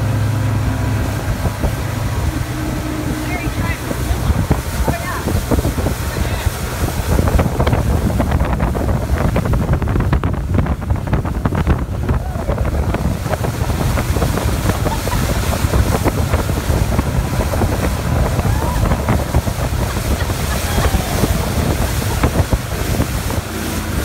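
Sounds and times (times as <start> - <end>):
outboard engine running: 0.0 - 24.0
wake churning: 0.0 - 24.0
wind buffeting microphone: 0.0 - 24.0.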